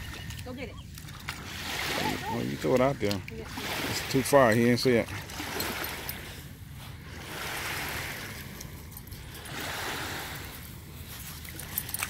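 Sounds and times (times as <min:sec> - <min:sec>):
small waves washing on shore: 0:00.0 - 0:12.0.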